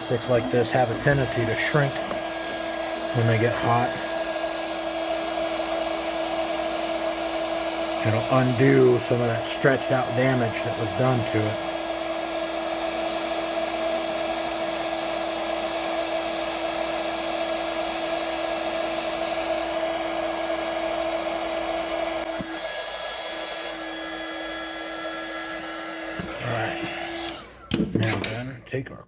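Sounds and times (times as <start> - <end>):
heat gun blowing air: 0.0 - 28.4.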